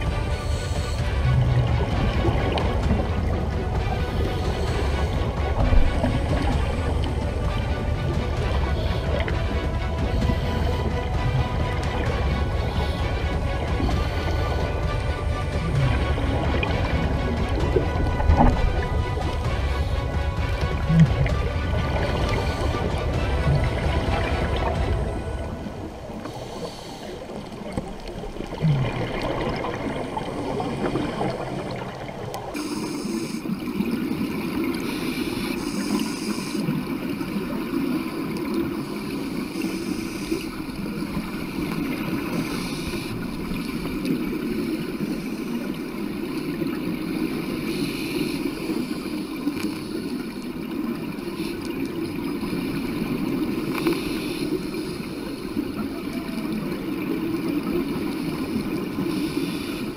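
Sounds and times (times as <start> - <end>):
underwater rushing and gurgling: 0.0 - 59.9.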